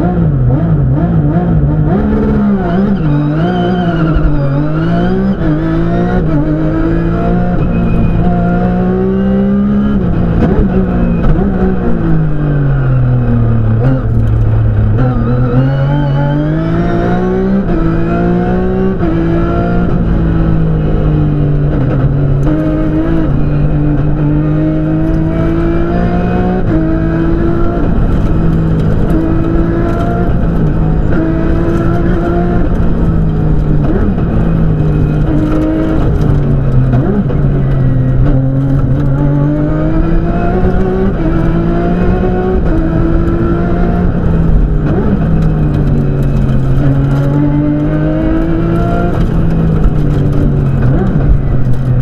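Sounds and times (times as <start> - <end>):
car engine revving: 0.0 - 52.0.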